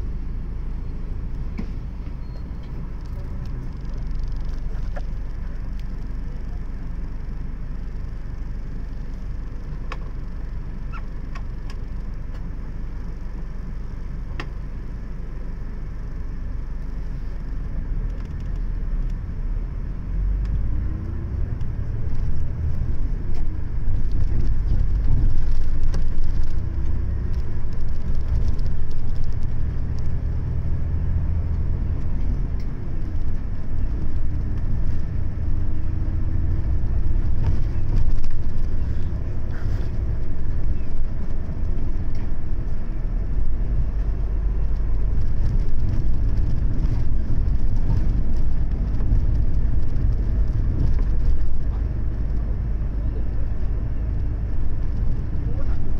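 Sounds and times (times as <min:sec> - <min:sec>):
bus engine rumble: 0:00.0 - 0:55.9.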